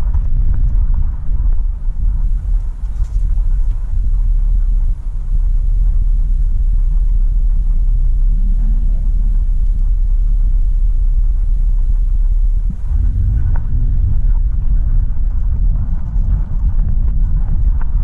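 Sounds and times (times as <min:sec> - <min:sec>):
road and engine noise inside van: 0:00.0 - 0:18.0.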